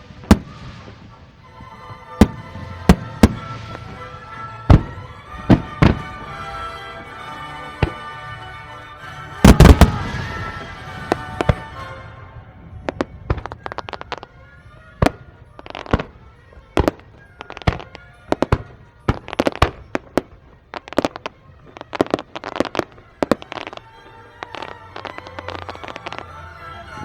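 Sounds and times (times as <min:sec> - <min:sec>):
fireworks bursting with bangs: 0:00.0 - 0:27.0.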